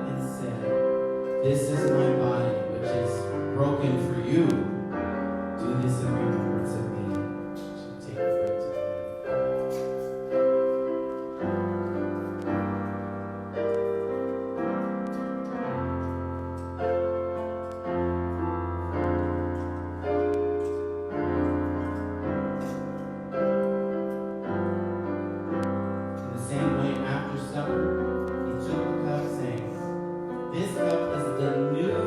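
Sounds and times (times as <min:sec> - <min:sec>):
slow piano chords: 0:00.0 - 0:32.0.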